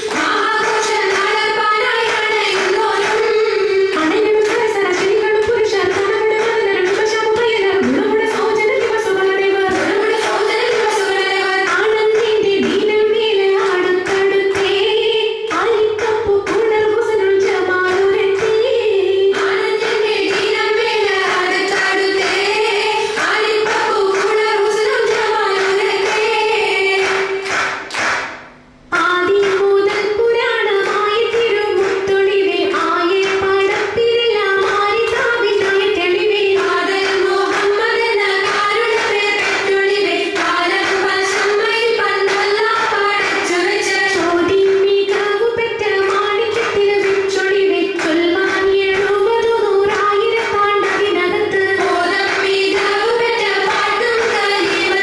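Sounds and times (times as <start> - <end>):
rhythmic hand clapping: 0.0 - 55.0.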